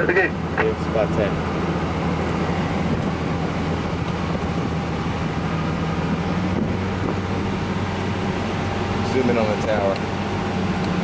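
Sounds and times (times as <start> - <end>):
cockpit fans droning: 0.0 - 11.0.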